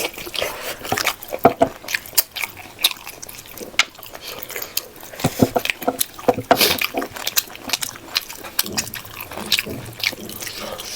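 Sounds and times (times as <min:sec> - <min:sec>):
chewing and mouth smacking: 0:00.0 - 0:10.9.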